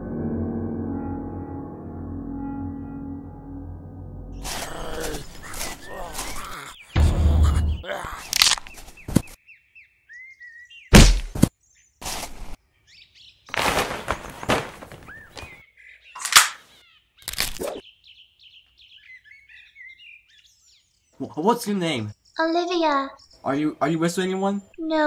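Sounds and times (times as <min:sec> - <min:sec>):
birds chirping: 0:04.4 - 0:25.0.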